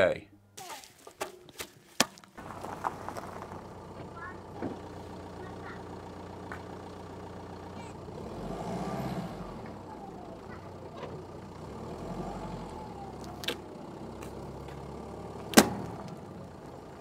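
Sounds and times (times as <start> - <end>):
car engine revving under load: 2.4 - 17.0.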